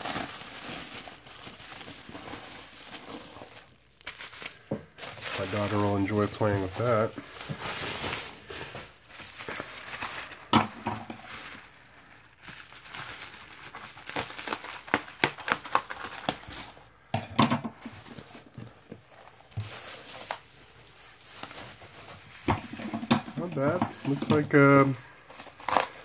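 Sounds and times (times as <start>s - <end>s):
bubble wrap crinkling: 0.0s - 26.0s.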